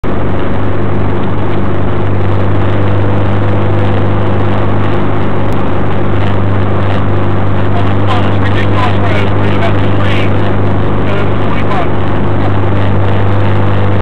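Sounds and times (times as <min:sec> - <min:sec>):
car engine cruising hum: 0:00.0 - 0:14.0
road noise: 0:00.0 - 0:14.0.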